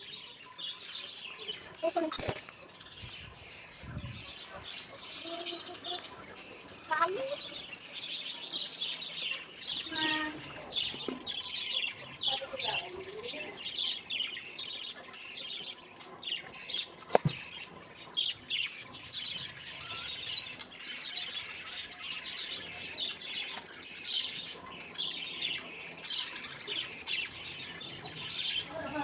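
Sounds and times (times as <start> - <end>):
birds chattering: 0.0 - 29.0.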